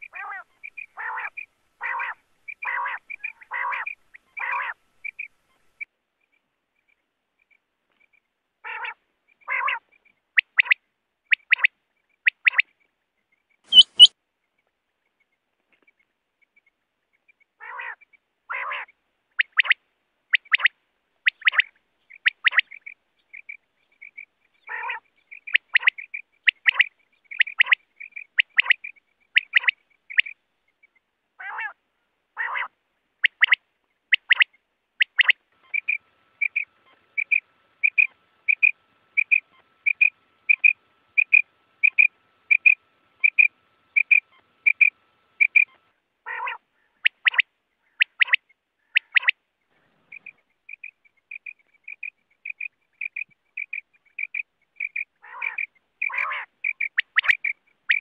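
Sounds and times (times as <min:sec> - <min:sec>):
quail calling: 0:00.0 - 0:05.9, 0:08.6 - 0:12.7, 0:13.7 - 0:14.1, 0:17.6 - 0:30.4, 0:31.4 - 0:31.8, 0:32.4 - 0:58.0.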